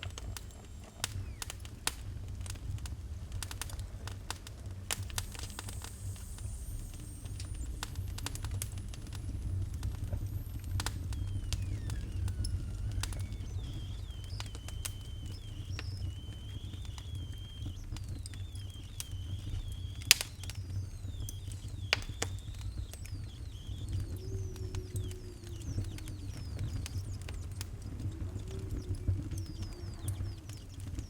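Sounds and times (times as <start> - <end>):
wood fire crackling: 0.0 - 31.0
thin high whistle: 5.0 - 31.0.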